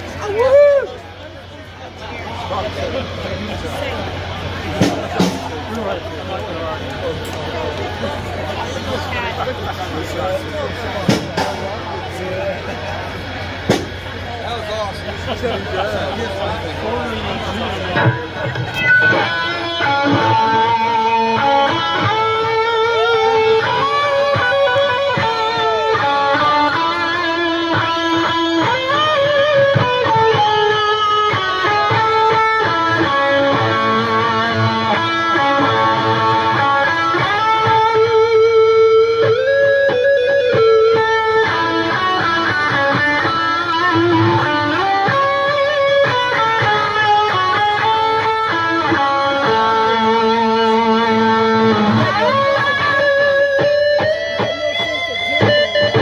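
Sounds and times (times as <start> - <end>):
live rock band: 0.0 - 56.0
electric guitar lead with bends: 1.7 - 56.0.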